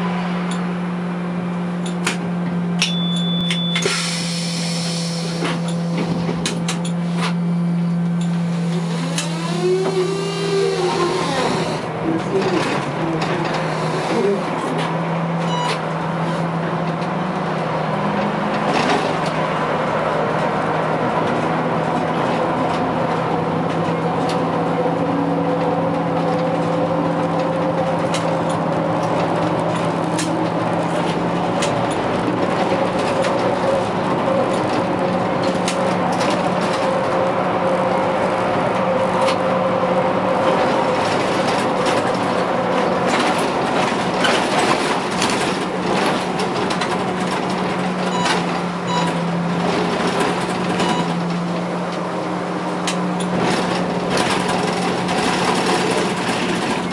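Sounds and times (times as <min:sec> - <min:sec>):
tyre and road noise: 0:00.0 - 0:56.9.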